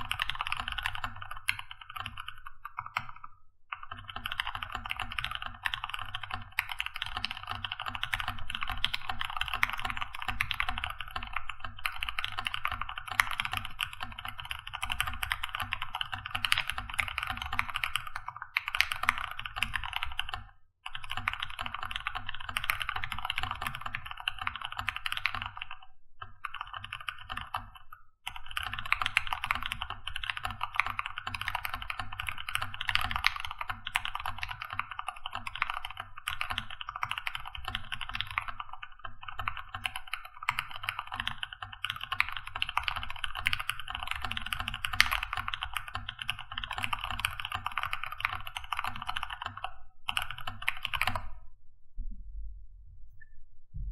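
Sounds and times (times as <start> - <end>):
fast mechanical keyboard typing: 0.0 - 51.4.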